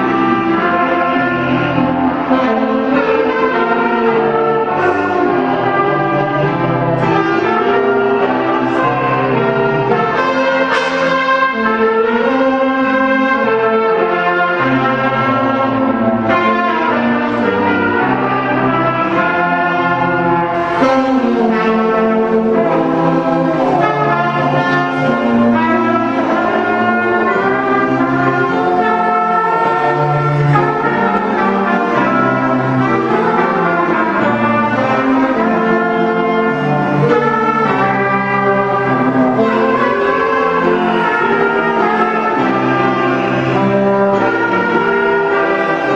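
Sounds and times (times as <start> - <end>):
orchestra of strings and brass: 0.0 - 45.9.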